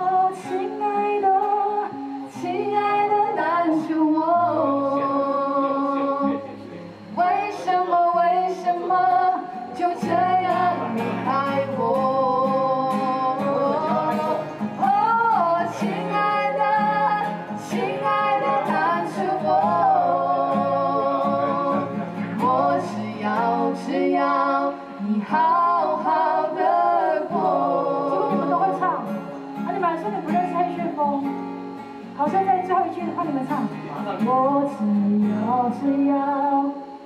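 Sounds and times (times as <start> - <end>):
woman singing slow melody: 0.0 - 6.4, 7.2 - 31.3, 34.2 - 37.0
strummed acoustic guitar: 0.0 - 37.0.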